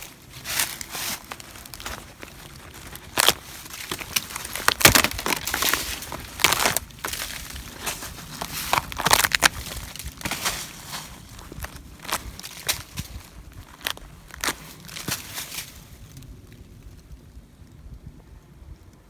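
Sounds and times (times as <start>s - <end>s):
footsteps crunching over branches: 0.0s - 17.2s.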